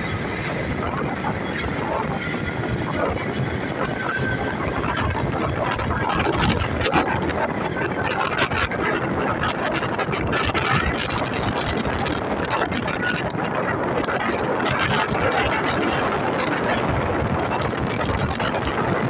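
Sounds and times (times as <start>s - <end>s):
motorcycle engine running: 0.0s - 19.0s
passing traffic: 0.0s - 19.0s
wind buffeting microphone: 0.0s - 19.0s.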